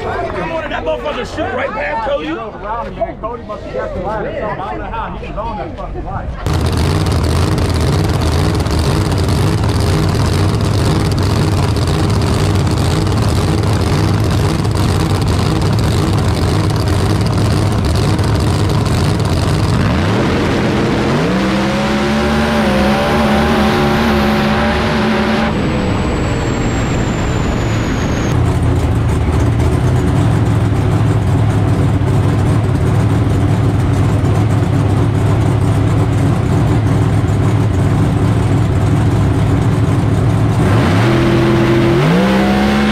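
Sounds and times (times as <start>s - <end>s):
car engine droning and revving: 6.4s - 42.9s.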